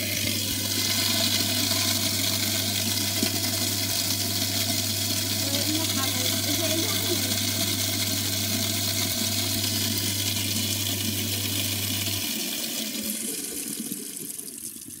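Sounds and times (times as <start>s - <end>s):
tap water pouring down drain: 0.0s - 15.0s
waste disposer motor hum: 0.0s - 15.0s.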